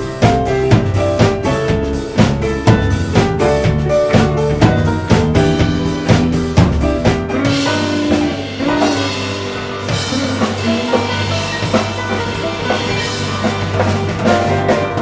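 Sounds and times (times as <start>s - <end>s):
drum kit beat: 0.0s - 15.0s
electric bass: 0.0s - 15.0s
electric guitar: 0.0s - 15.0s
grand piano: 0.0s - 15.0s.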